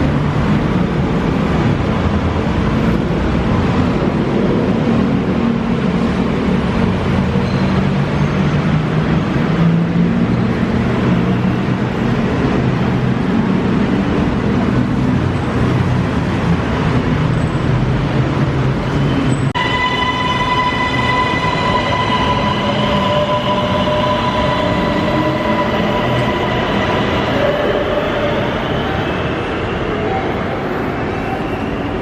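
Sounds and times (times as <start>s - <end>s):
metro train high whine: 0.0s - 32.0s.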